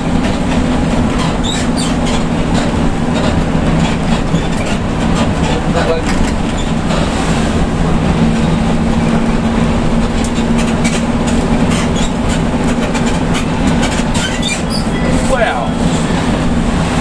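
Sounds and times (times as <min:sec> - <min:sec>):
bus engine drone: 0:00.0 - 0:17.0
rattles and clicks from bus body: 0:00.0 - 0:17.0
road noise: 0:00.0 - 0:17.0.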